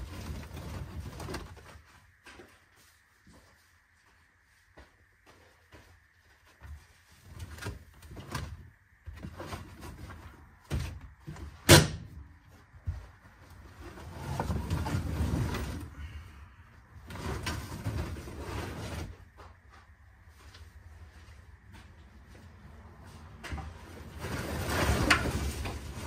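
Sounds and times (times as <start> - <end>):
rustling and scraping: 0.0 - 26.0.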